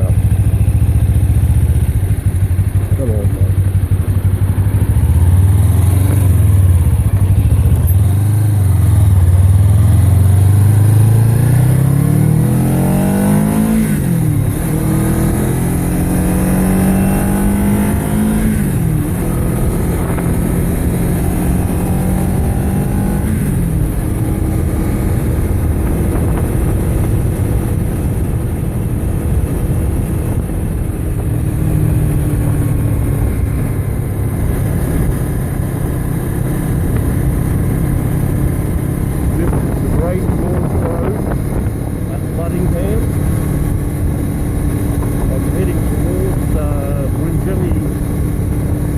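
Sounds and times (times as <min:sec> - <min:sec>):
motorcycle engine accelerating: 0:00.0 - 0:48.9
wind noise: 0:04.5 - 0:48.9.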